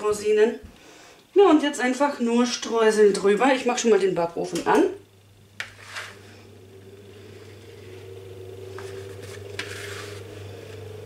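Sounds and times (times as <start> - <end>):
electric oven fan humming: 0.0 - 11.0.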